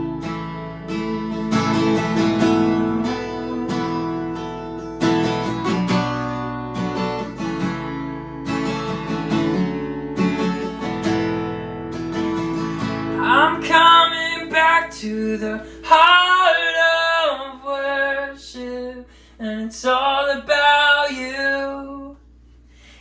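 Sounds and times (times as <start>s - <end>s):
acoustic guitar strumming chords: 0.0s - 22.1s.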